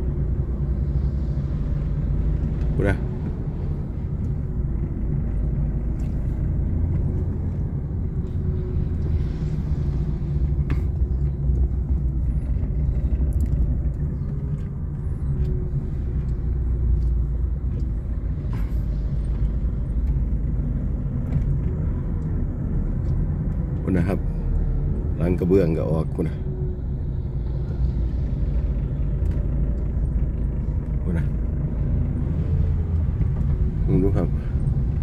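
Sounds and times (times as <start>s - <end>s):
vehicle rumbling while moving: 0.0s - 35.0s.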